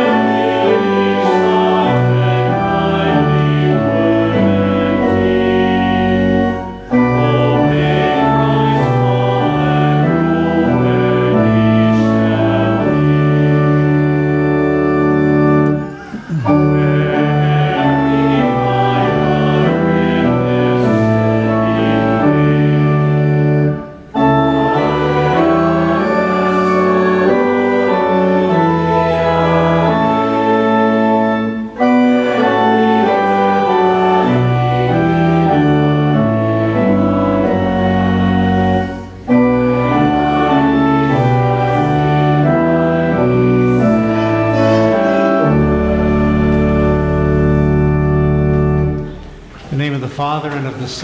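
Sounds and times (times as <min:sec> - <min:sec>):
church organ chords: 0:00.0 - 0:51.0.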